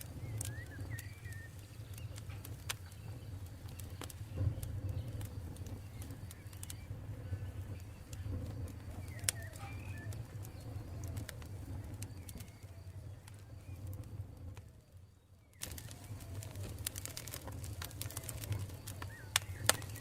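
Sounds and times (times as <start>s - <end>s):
birds cooing: 0.0s - 13.9s, 15.6s - 20.0s
campfire crackling and popping: 0.0s - 20.0s.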